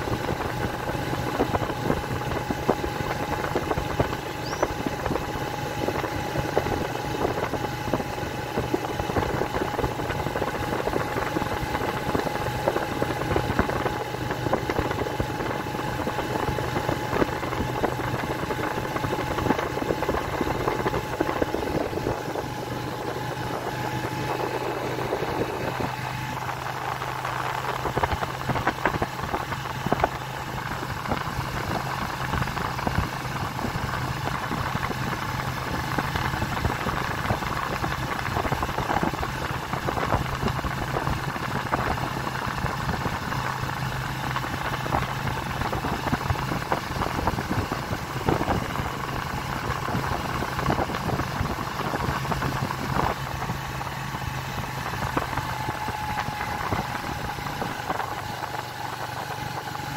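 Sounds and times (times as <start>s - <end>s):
motorcycle engine running: 0.0s - 59.9s
rushing wind and road noise: 0.0s - 59.9s.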